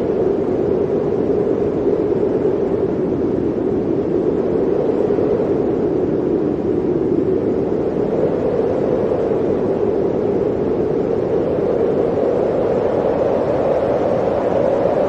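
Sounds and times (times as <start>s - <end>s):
blizzard wind howling: 0.0s - 15.0s.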